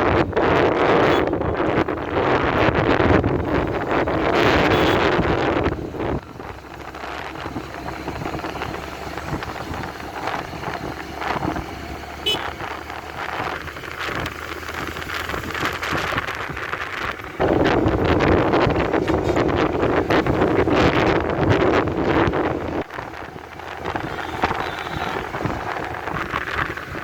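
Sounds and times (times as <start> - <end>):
motorcycle road noise: 0.0 - 27.0
traffic: 0.0 - 27.0
wind blasting microphone: 0.0 - 27.0.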